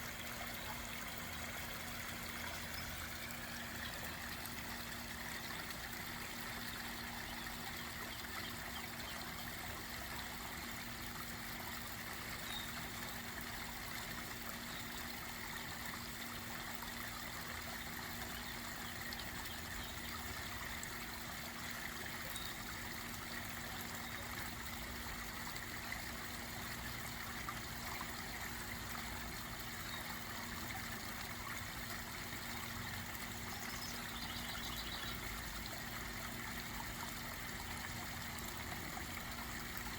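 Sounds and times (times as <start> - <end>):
pond waterfall trickling and splashing: 0.0 - 39.9.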